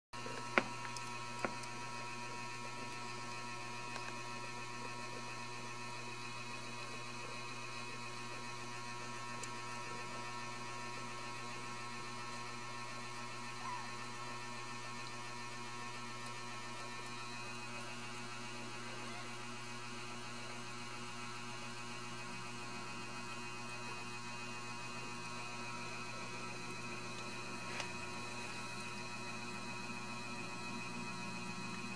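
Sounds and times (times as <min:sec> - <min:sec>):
electrical mains hum: 0:00.2 - 0:31.9.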